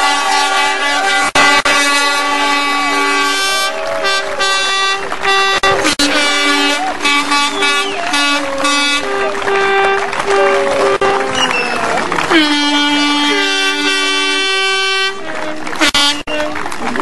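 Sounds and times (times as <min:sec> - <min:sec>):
horns honking: 0:00.0 - 0:17.0.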